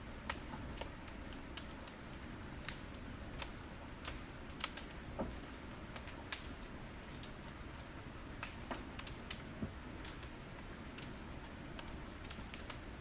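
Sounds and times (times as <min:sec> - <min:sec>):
firewood crackling: 0:00.0 - 0:13.0
low hiss of fire: 0:00.0 - 0:13.0.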